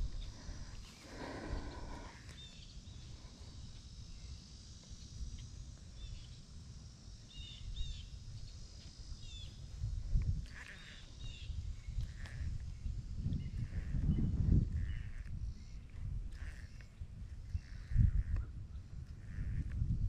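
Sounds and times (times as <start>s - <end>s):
wind rumbling on microphone: 0.0s - 4.4s, 7.3s - 20.0s.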